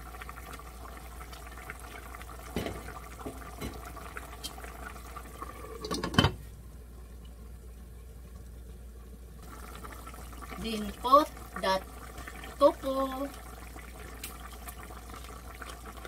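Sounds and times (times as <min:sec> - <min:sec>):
stew bubbling in pot: 0:00.0 - 0:16.0.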